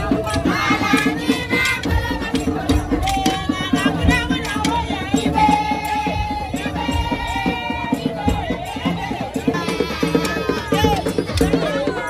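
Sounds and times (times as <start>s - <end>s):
fast drumming: 0.0s - 12.0s
group of voices singing: 0.0s - 12.0s.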